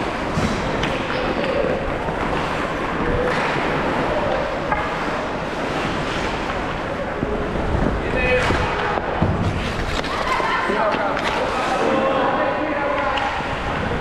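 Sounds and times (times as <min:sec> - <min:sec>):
arena ambience wash: 0:00.0 - 0:14.0.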